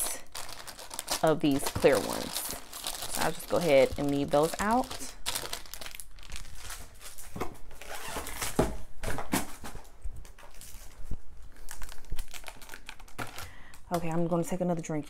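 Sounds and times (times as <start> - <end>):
plastic crinkling and rustling: 0.0 - 15.0.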